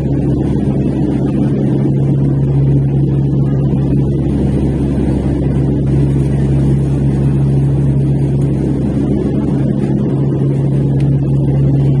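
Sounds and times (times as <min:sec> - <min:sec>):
airliner cabin drone: 0:00.0 - 0:12.0.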